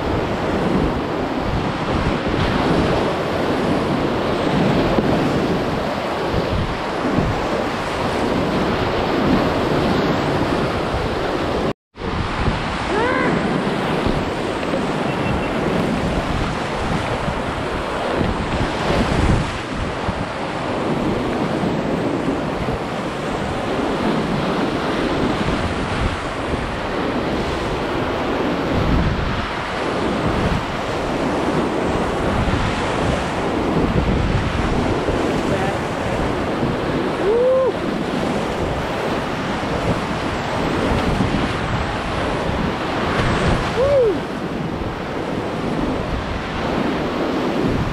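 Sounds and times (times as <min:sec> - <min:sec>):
whitewater rushing and splashing: 0:00.0 - 0:47.9.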